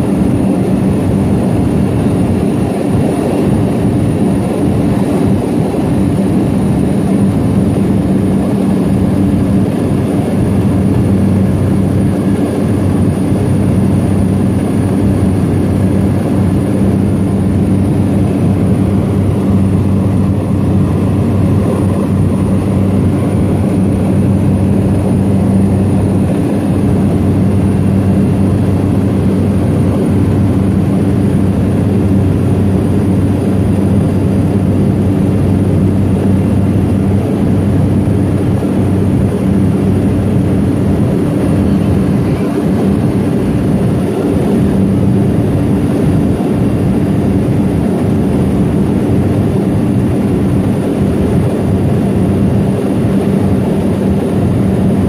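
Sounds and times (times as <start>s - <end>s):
plane engine and propeller drone: 0.0s - 55.0s.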